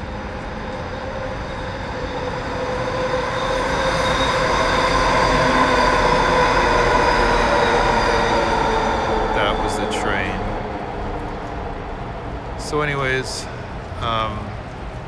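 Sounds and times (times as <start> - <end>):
metro train passing with whine: 0.0 - 15.0.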